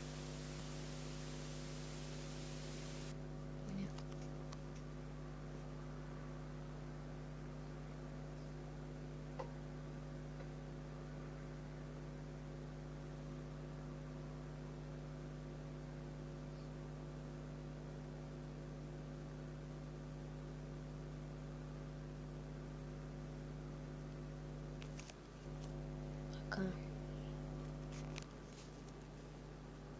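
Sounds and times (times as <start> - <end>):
low electrical hum: 0.0 - 29.9.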